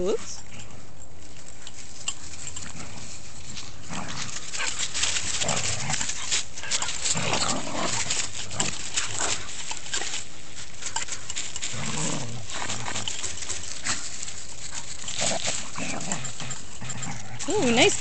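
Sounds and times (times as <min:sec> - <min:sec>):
scuffling through dry leaves: 0:00.7 - 0:18.0
small dogs growling and snarling: 0:02.4 - 0:18.0.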